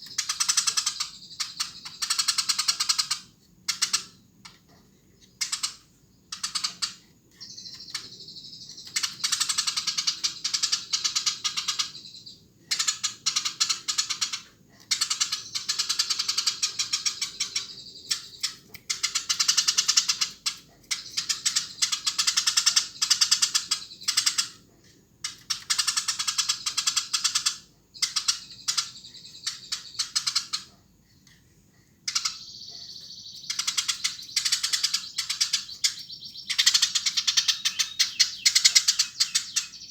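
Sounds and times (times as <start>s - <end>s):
sparrow chirping: 0.0s - 4.2s, 5.2s - 24.6s, 25.2s - 31.4s, 32.0s - 39.9s.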